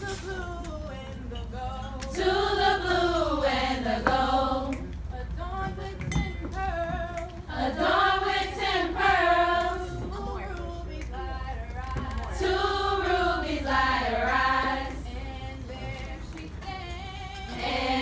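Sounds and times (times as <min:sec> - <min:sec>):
women singing together: 0:00.0 - 0:18.0.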